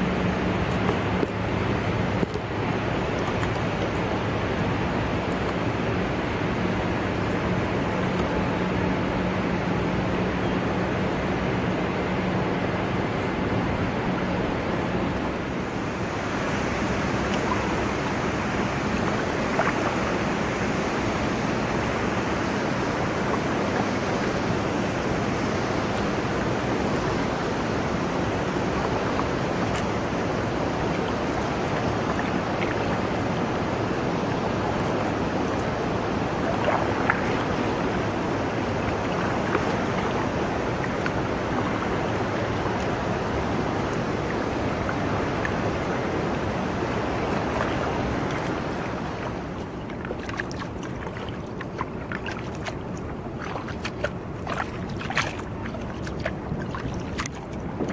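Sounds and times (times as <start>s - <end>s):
distant waterfall roar: 0.0s - 57.9s
river water rushing: 0.0s - 57.9s
wind: 0.0s - 57.9s.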